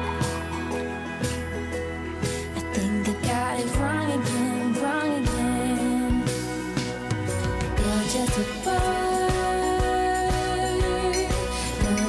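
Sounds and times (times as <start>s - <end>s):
song playing: 0.0s - 12.0s.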